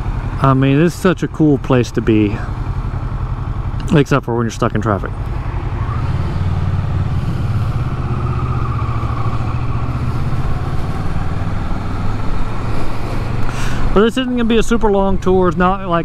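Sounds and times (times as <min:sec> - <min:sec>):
motorcycle engine running at low revs: 0:00.0 - 0:16.0.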